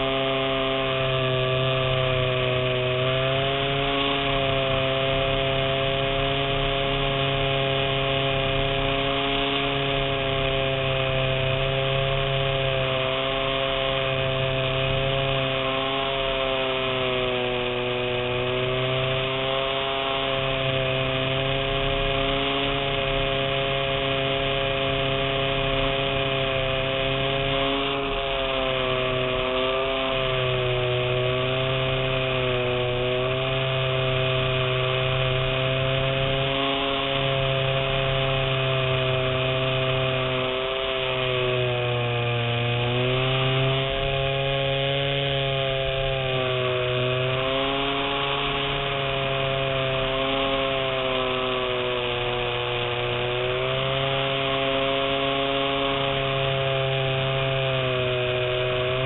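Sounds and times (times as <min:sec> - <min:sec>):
model airplane motor whining: 0:00.0 - 0:59.0.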